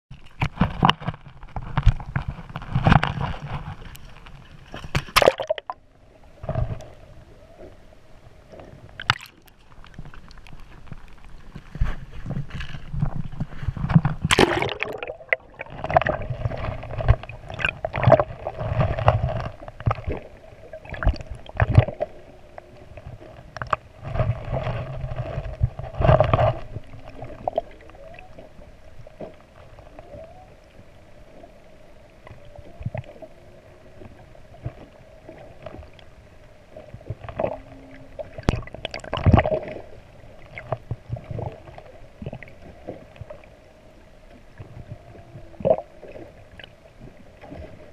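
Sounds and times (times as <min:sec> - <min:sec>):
faint steady hum: 0:00.1 - 0:47.9
underwater sloshing and gurgling: 0:00.1 - 0:47.9.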